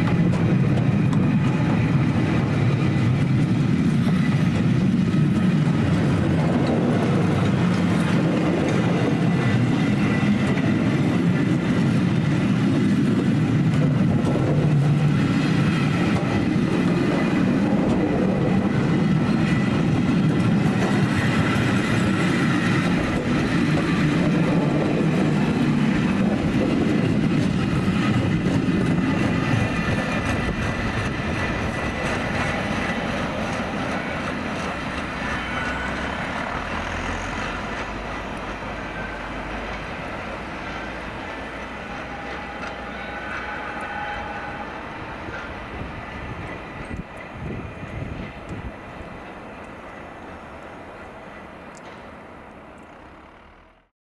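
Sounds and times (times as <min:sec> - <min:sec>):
train wheels clattering on rails: 0:00.0 - 0:53.6.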